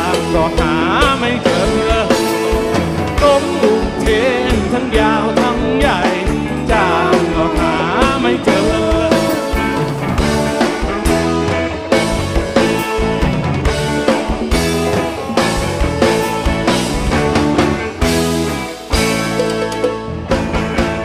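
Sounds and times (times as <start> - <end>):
lead guitar line bending in pitch: 0.0 - 21.0
live rock band music: 0.0 - 21.0
steady drum beat: 0.0 - 21.0.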